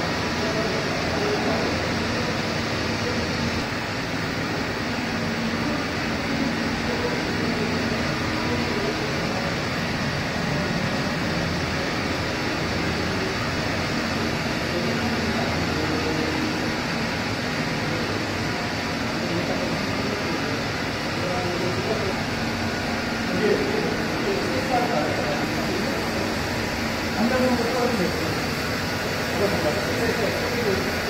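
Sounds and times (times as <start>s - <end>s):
coating machine whirring: 0.0s - 31.0s
dryer fans blowing: 0.0s - 31.0s.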